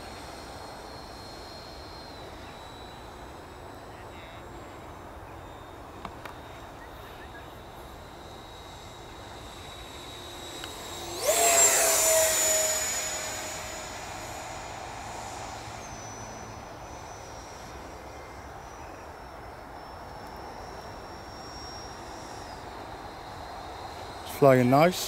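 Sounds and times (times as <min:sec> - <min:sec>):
electric jet fan whine: 0:00.0 - 0:25.0.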